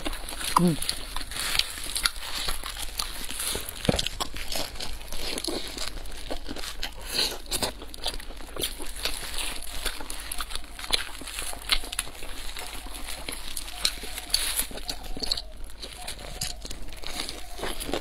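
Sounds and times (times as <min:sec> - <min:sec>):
chewing: 0:00.0 - 0:18.0
crisp wrap crunching: 0:00.0 - 0:18.0
plastic gloves crinkling: 0:00.0 - 0:18.0.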